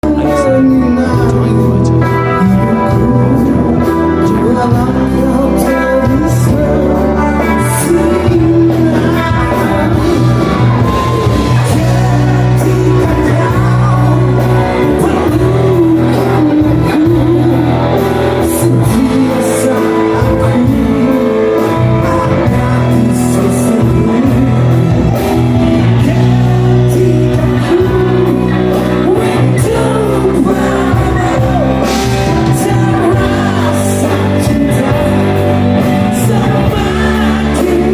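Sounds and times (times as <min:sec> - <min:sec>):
guitar: 0:00.0 - 0:37.9
rock song with singer: 0:00.0 - 0:37.9.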